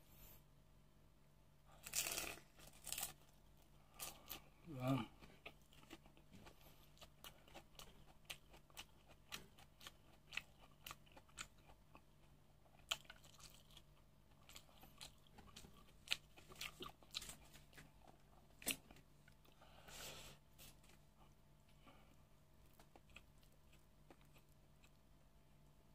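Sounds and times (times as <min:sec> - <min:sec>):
person chewing food: 0:01.7 - 0:25.7.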